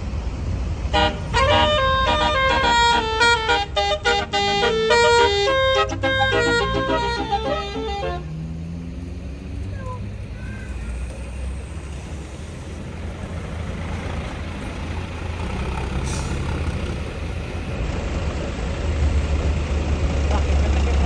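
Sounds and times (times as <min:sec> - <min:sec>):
bus diesel engine rumble: 0:00.0 - 0:21.0.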